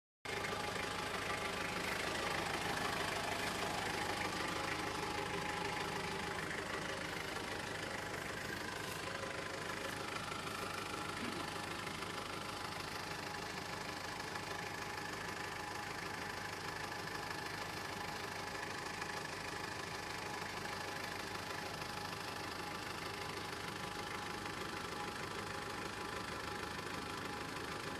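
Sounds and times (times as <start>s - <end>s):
pickup engine running: 0.3s - 27.9s.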